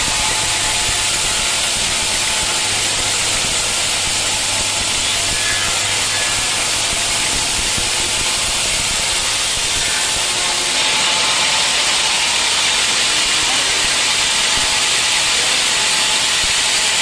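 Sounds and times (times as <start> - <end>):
saw blade cutting log: 0.0 - 17.0.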